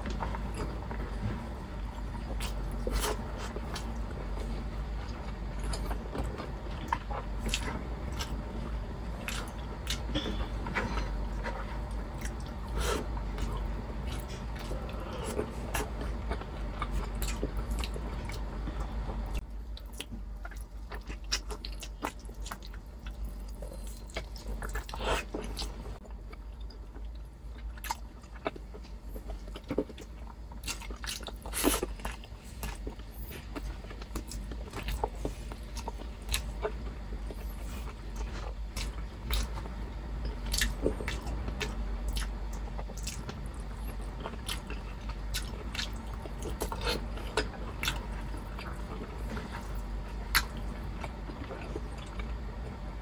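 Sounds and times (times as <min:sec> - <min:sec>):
person chewing and smacking: 0:00.0 - 0:52.9.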